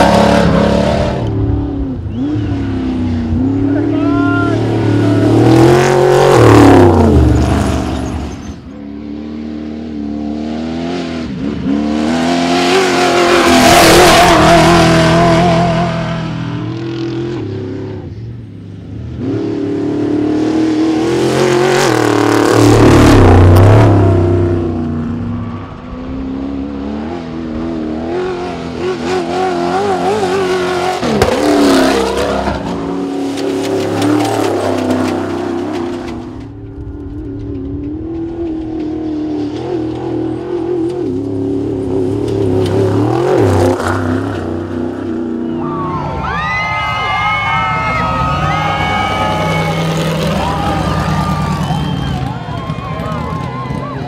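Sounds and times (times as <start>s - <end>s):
trucks racing past: 0.0s - 54.0s.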